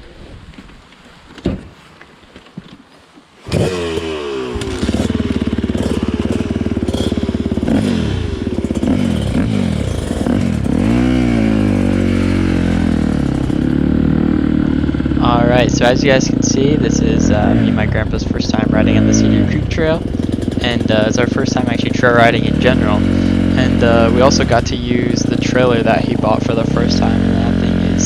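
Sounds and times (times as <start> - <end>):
dirt bike engine revving: 3.4 - 28.0.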